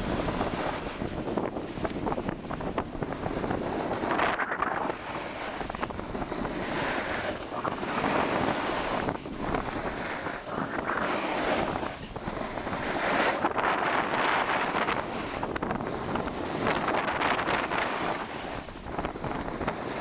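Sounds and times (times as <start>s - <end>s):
skis scraping over packed snow: 0.0s - 20.0s
wind rushing over microphone: 0.0s - 20.0s.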